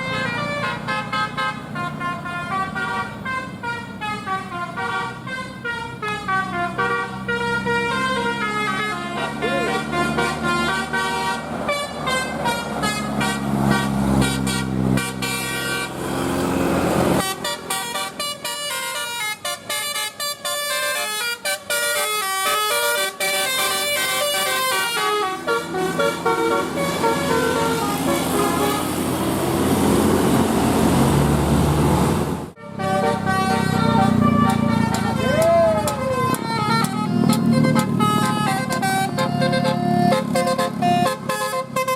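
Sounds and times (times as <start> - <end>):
musical air horn melody: 0.0 - 16.0, 17.1 - 29.2, 32.6 - 41.9.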